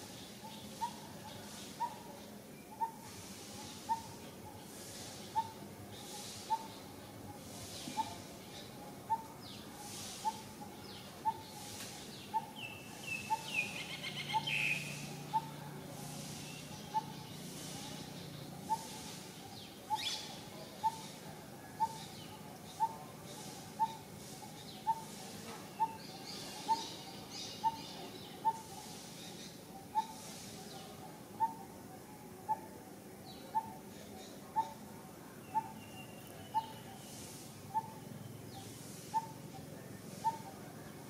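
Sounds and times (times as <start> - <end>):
faint bird chirps: 0.0 - 41.0.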